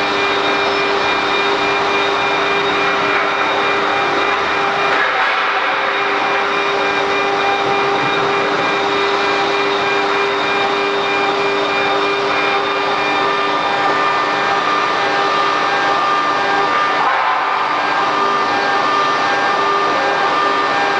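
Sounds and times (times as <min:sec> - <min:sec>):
cnc router spindle whine: 0:00.0 - 0:20.9.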